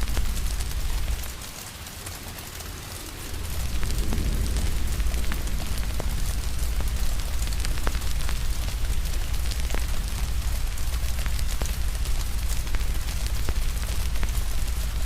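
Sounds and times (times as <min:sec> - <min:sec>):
deep constant rumble: 0:00.0 - 0:15.0
rain hiss: 0:00.0 - 0:15.0
wood fire crackling: 0:00.0 - 0:15.0.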